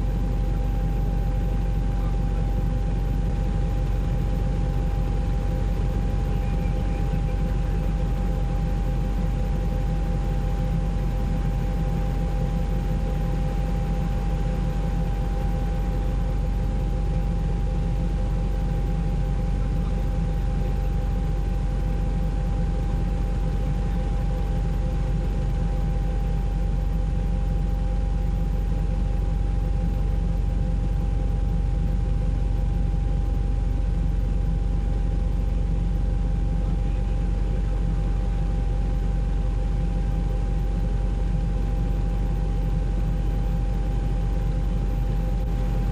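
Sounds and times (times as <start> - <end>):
faint steady whine: 0.0 - 45.9
helicopter engine and rotor drone: 0.0 - 45.9.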